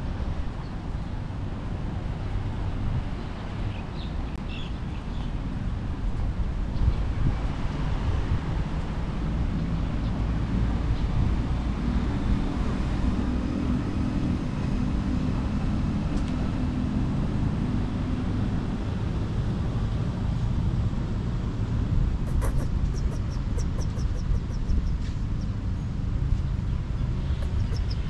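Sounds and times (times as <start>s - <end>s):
faint engine hum: 0.0s - 28.0s
traffic rumble: 0.0s - 28.0s.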